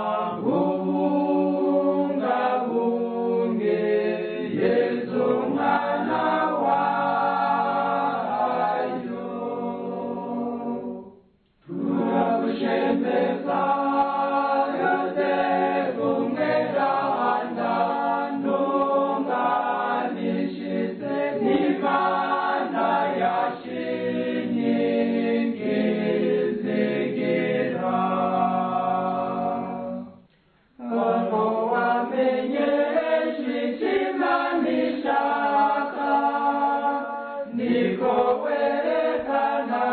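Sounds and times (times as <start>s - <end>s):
choir singing a hymn: 0.0s - 30.2s, 30.8s - 39.9s.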